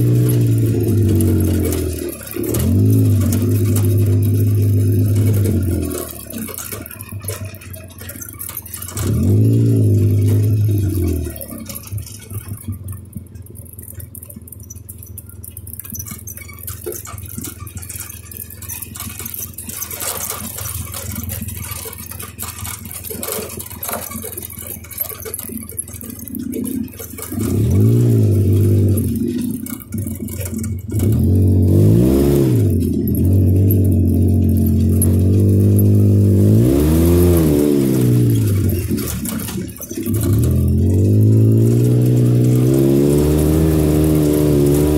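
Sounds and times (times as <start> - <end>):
atv engine revving: 0.0 - 44.9
vehicle rattling and clatter: 0.0 - 44.9.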